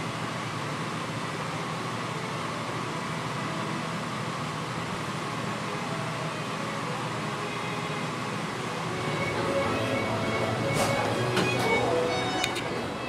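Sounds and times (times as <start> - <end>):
steady background hum and hiss: 0.0 - 13.0.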